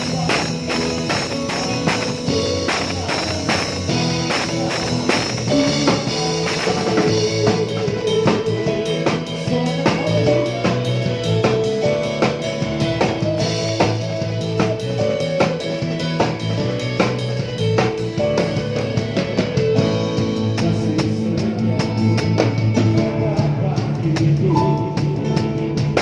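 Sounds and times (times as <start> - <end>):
bass line: 0.0 - 26.0
drum kit beat: 0.0 - 26.0
live band playing worship song: 0.0 - 26.0.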